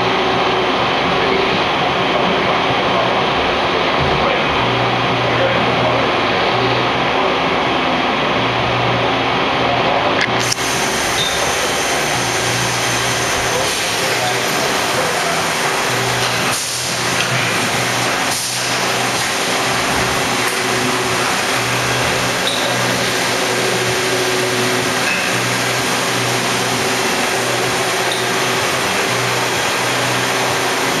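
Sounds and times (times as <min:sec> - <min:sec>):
lathe machine hum and hiss: 0:00.0 - 0:31.0.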